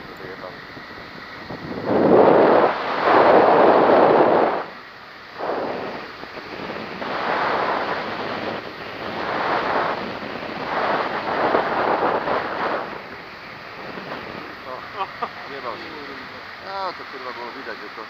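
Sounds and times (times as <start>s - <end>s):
wind buffeting microphone: 0.0s - 16.6s.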